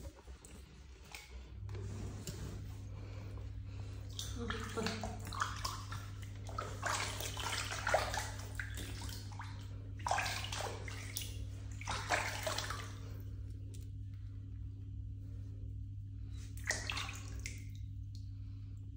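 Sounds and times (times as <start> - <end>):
water splashing in a tub: 0.0 - 14.0, 16.2 - 18.7
steady low hum: 0.0 - 18.9.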